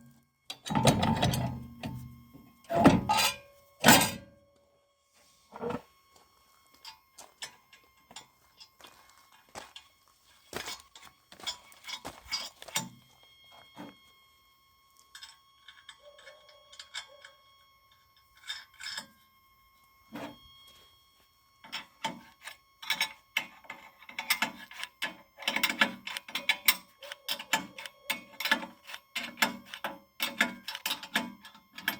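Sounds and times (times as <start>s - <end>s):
faint steady tone: 0.0s - 31.9s.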